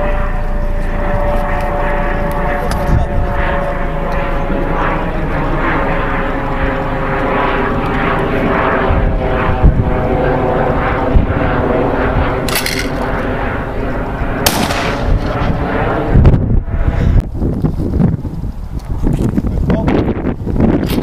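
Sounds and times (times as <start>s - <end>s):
engine drone: 0.0s - 17.4s.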